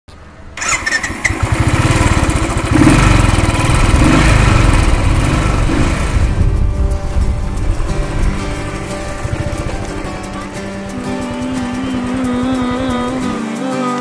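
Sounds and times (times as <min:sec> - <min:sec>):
motorcycle engine running: 0:00.6 - 0:13.5.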